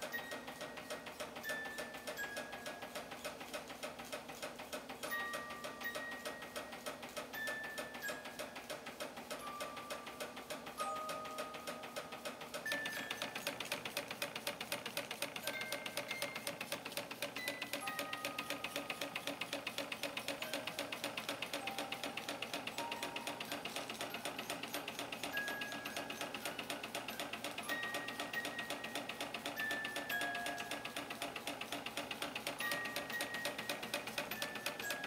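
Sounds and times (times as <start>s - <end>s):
toy steam engine ticking: 0.0s - 35.0s.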